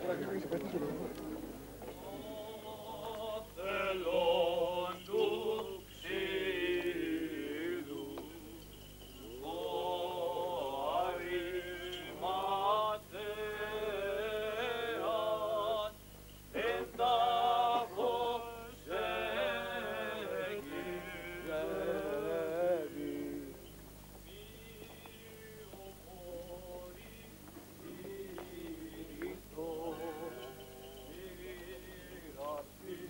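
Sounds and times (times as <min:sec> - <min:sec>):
men chanting a slow hymn: 0:01.9 - 0:23.7, 0:24.3 - 0:33.0.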